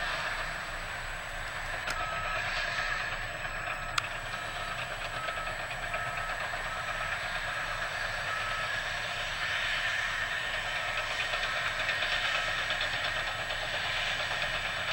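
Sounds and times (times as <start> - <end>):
heavy machinery rumbling: 0.0 - 14.9
reversing alarm beeping: 0.2 - 14.9.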